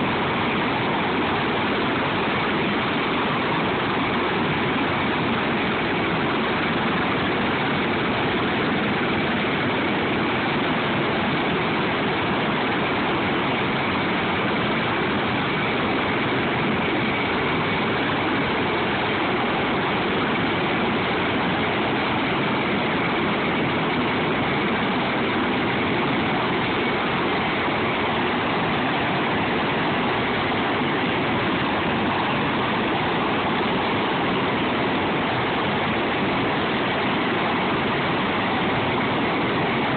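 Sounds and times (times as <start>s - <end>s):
helicopter turbine and rotor noise: 0.0s - 39.9s
high turbine whine: 0.0s - 39.9s.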